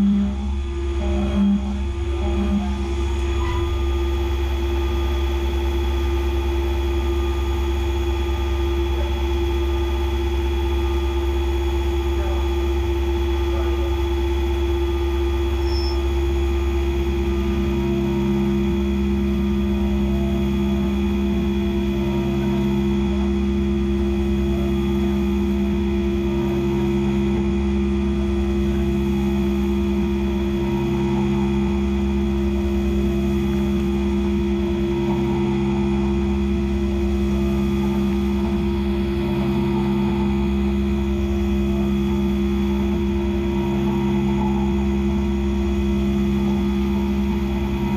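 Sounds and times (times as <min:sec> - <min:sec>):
lower tone: 0:00.0 - 0:47.9
milling machine spindle hum: 0:00.0 - 0:47.9
pulsing low tone: 0:00.0 - 0:47.9.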